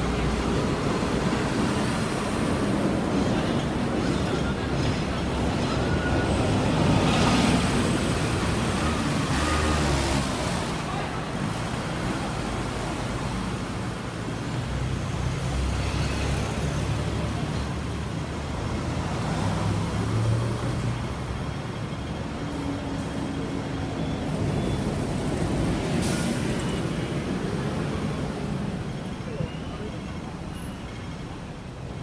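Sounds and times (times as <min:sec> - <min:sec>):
bus diesel engine passing: 0:00.0 - 0:32.0
road traffic: 0:00.0 - 0:32.0.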